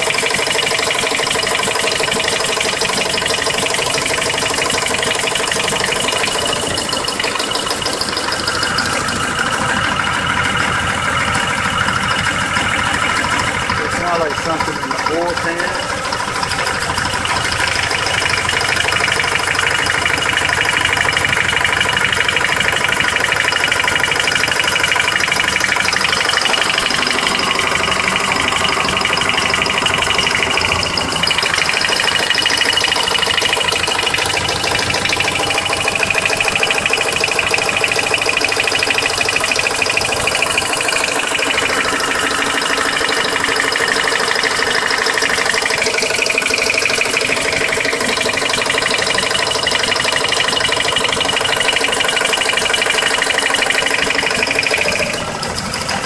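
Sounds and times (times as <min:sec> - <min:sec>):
car engine idling with ticking: 0:00.0 - 0:56.0
high whine: 0:03.0 - 0:56.0.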